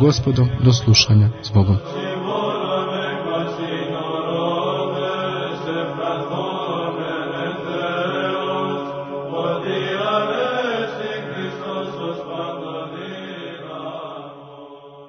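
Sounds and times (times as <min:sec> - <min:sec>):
held vocal drone: 0:00.0 - 0:14.7.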